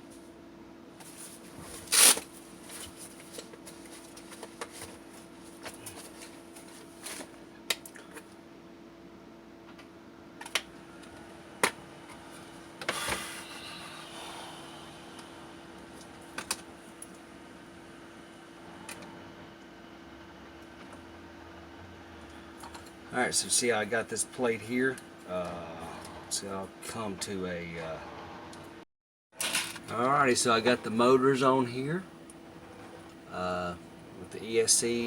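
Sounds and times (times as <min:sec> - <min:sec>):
faint steady hum: 0:00.0 - 0:28.8, 0:29.4 - 0:35.0.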